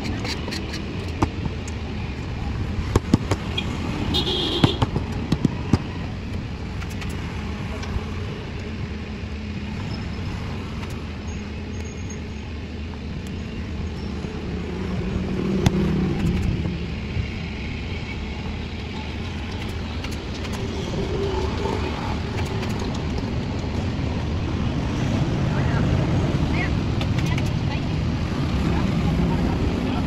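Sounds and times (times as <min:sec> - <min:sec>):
vehicle rumble and road noise: 0:00.0 - 0:30.0.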